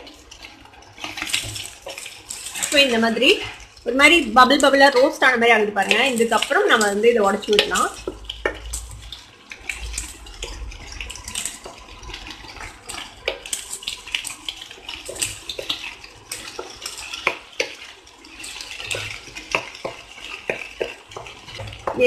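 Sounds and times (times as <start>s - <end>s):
spatula scraping frying pan: 0.0s - 3.8s, 5.8s - 22.0s
eggs sizzling: 0.0s - 22.0s.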